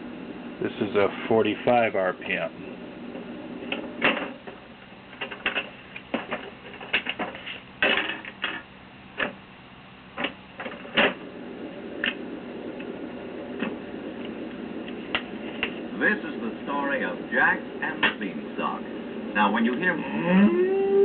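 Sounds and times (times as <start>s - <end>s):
turntable low hum: 0.0s - 7.8s, 8.7s - 21.0s.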